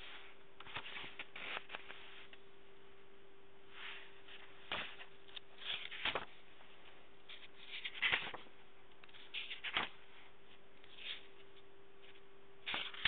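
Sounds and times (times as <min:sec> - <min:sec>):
paper pages rustling: 0:00.0 - 0:02.4, 0:03.8 - 0:13.0
faint steady hum: 0:00.0 - 0:13.0.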